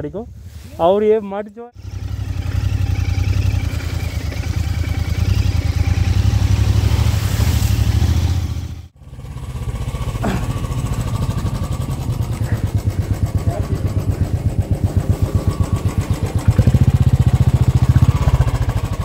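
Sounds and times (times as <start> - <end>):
motorcycle engine running: 1.8 - 19.0.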